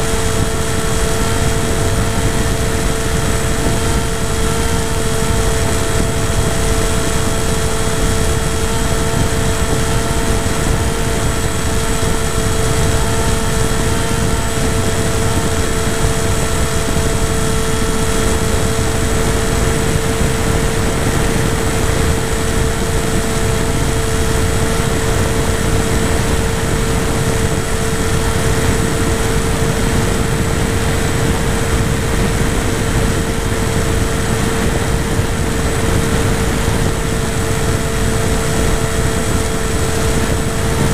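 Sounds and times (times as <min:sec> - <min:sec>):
model airplane motor humming: 0:00.0 - 0:40.9
wind rush on microphone: 0:00.0 - 0:40.9.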